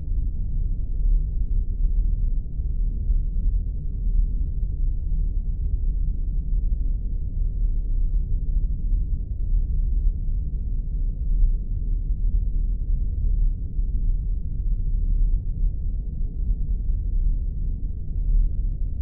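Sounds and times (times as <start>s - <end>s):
deep rumbling drone: 0.0s - 19.0s.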